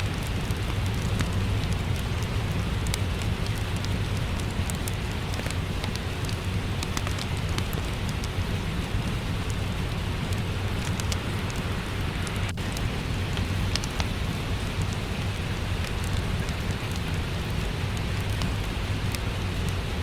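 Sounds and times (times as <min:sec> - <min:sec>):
steady rain falling: 0:00.0 - 0:20.0
wood fire crackles: 0:00.0 - 0:20.0.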